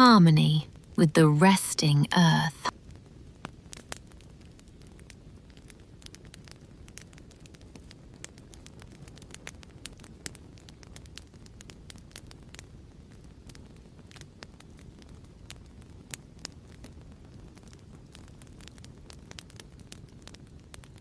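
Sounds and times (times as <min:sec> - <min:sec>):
wood fire crackling: 0:02.3 - 0:21.0.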